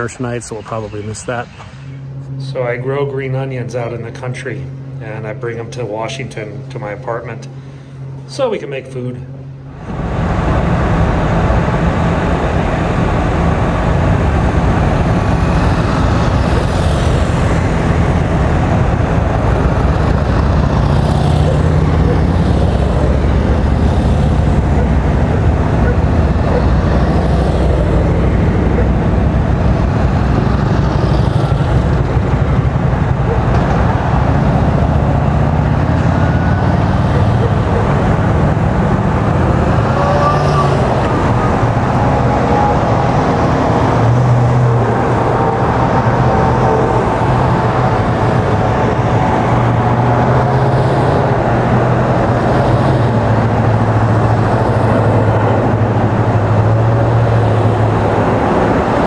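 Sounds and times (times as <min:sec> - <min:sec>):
vehicle engines droning: 0:00.0 - 0:59.0
tyre noise on road: 0:09.8 - 0:59.0.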